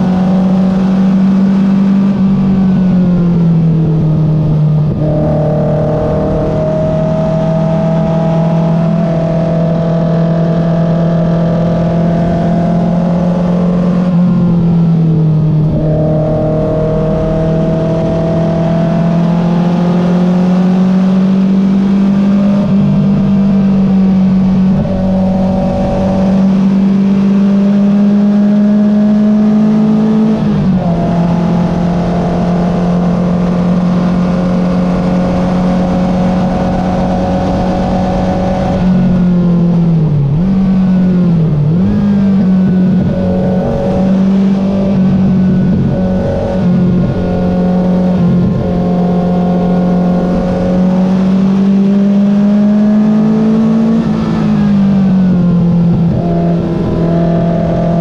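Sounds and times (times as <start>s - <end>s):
race car engine accelerating: 0.0s - 58.0s
engine throttle blips: 10.4s - 58.0s.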